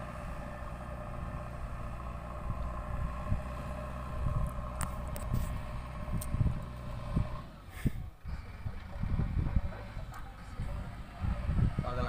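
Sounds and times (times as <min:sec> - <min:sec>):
loader bucket pushing soil: 0:00.0 - 0:11.7
diesel engine running: 0:00.0 - 0:12.0.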